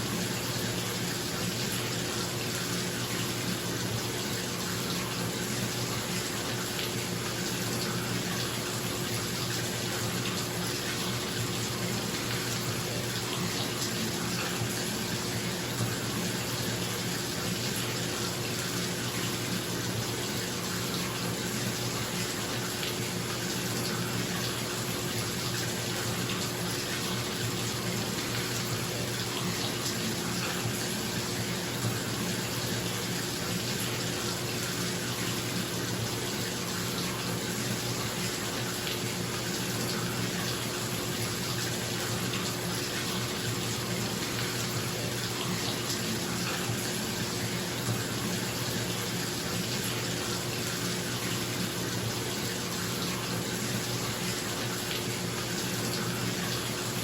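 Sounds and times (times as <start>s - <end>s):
tap water pouring into tub: 0.0s - 57.0s.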